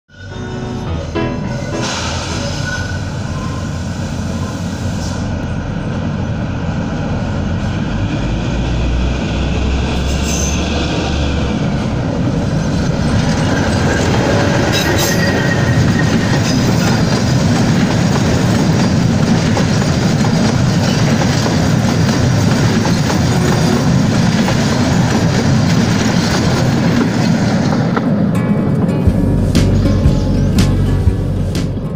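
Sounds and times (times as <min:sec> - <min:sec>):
wheels squealing on rails: 0:00.1 - 0:28.0
diesel locomotive rumbling: 0:00.1 - 0:31.9
train coaches rattling: 0:00.1 - 0:31.9.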